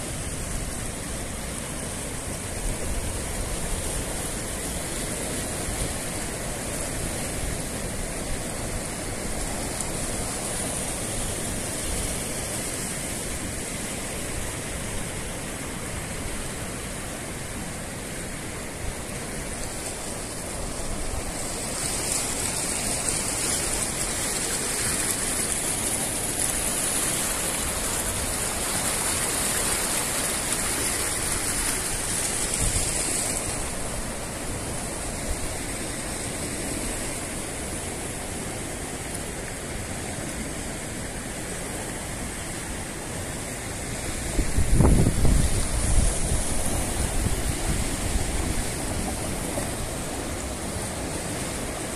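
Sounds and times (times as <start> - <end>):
floodwater rushing: 0.0 - 51.9.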